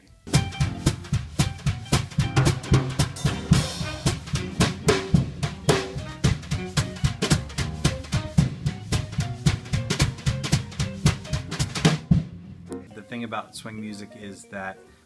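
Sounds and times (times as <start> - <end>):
snare and bass drum beat: 0.3 - 12.7
swing jazz band playing: 0.3 - 14.1.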